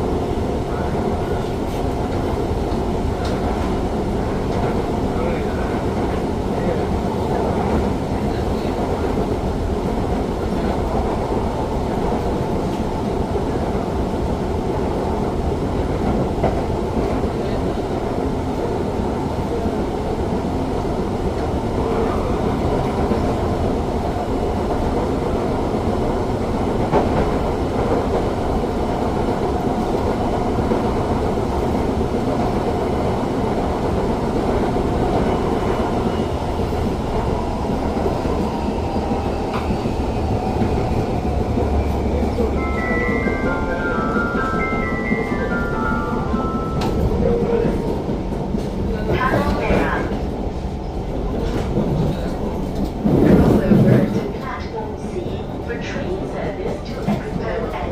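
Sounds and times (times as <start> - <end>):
wheels rumbling on rail: 0.0 - 57.9.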